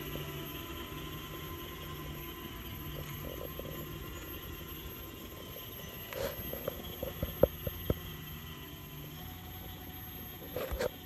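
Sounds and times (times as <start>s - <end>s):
electric drive hum: 0.0s - 11.0s
faint steady tones: 0.0s - 11.0s.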